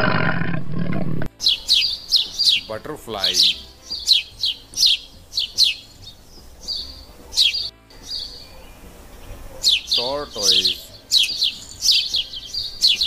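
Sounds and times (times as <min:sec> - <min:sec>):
small bird chirping: 0:01.4 - 0:13.0.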